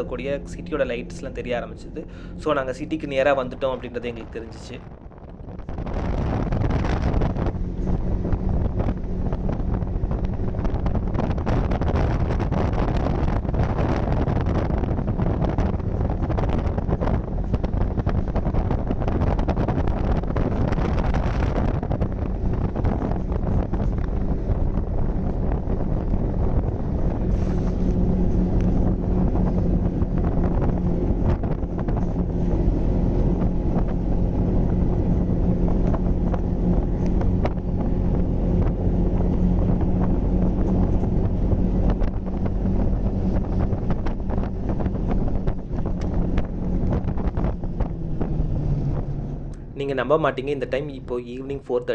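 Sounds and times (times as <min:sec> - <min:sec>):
snowmobile engine running: 0:00.0 - 0:51.0
wind buffeting microphone: 0:00.0 - 0:51.9.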